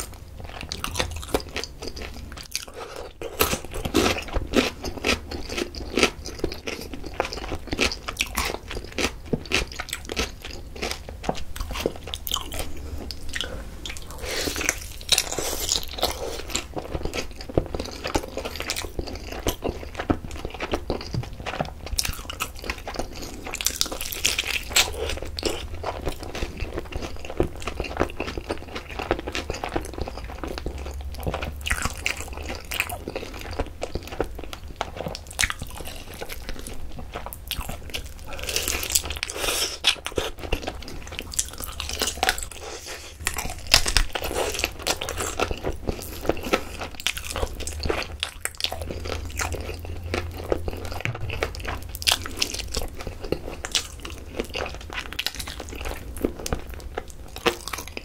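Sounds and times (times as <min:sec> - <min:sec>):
crunchy chicken chewing: 0:00.0 - 0:58.0.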